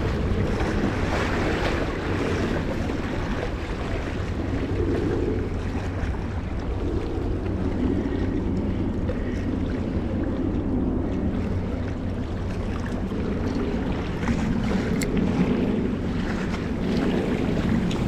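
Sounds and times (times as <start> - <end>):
sea water on rocky shore: 0.0 - 18.0
wind: 0.0 - 18.0.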